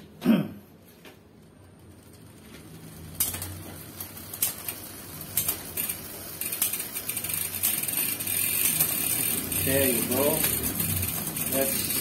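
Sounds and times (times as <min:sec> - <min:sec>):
bicycle chain turning: 0:01.4 - 0:12.0.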